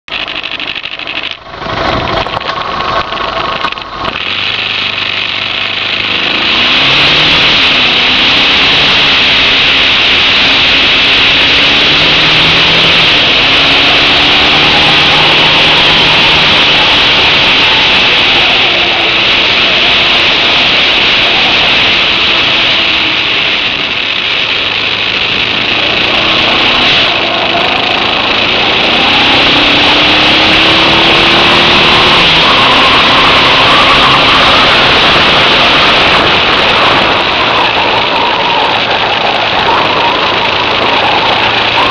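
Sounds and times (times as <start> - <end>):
motorcycle engine: 0.0 - 41.9
wind rush on microphone: 1.6 - 41.9.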